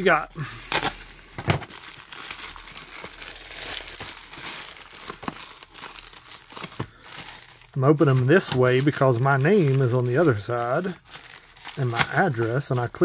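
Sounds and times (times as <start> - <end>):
plastic mailer crinkling: 0.6 - 13.0.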